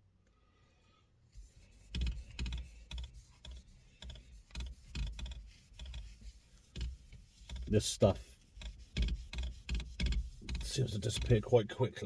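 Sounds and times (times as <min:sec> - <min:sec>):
cloth scrubbing leather: 0:01.3 - 0:11.5.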